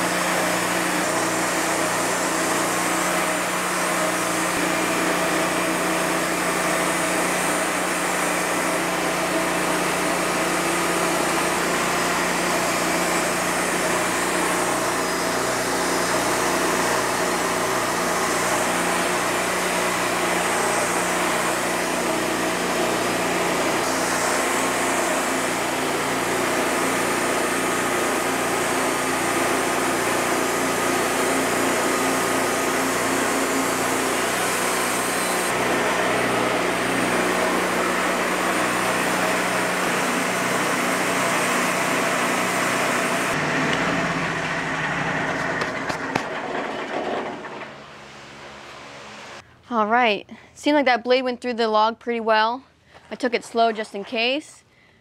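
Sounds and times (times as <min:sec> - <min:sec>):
bandsaw mill cutting log: 0:00.0 - 0:49.4.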